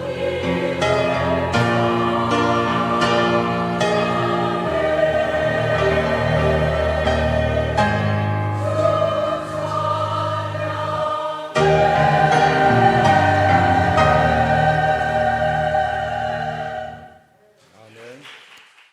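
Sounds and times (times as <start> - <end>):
church choir singing: 0.0 - 17.3.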